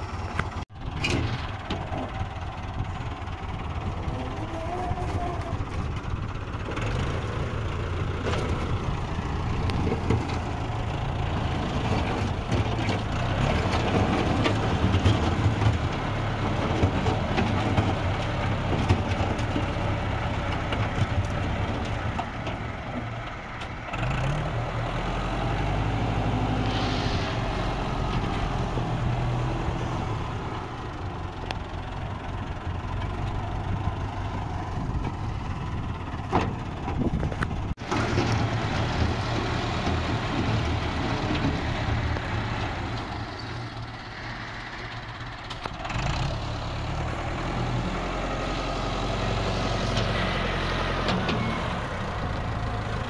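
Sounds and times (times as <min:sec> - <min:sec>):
engine humming: 0:00.0 - 0:53.0.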